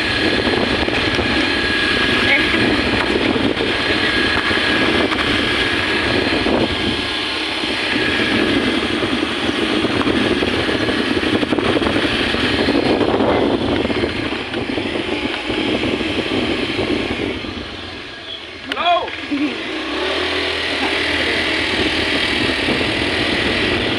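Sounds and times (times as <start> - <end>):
motorcycle engine: 0.0 - 23.9
wind rushing over microphone: 0.0 - 23.9.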